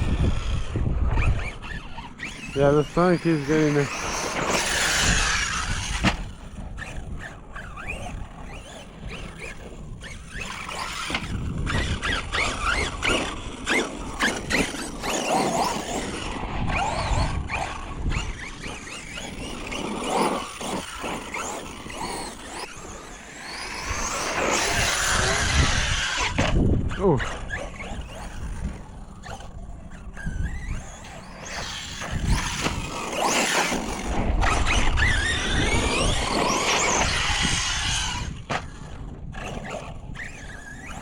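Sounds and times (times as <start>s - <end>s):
electric motor whining: 0.0s - 41.0s.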